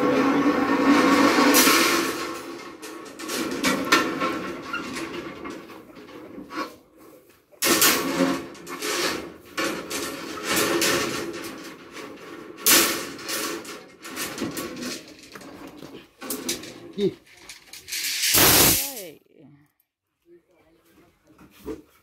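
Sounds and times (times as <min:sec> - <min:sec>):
steel rebar scraping and clattering: 0:00.0 - 0:19.1.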